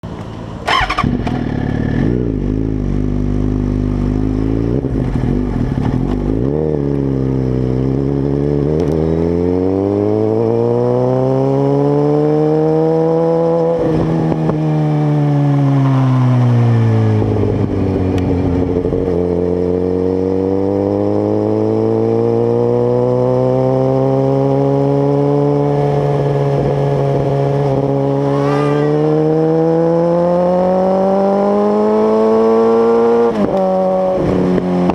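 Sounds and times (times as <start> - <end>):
motorcycle engine revving: 0.6 - 34.9.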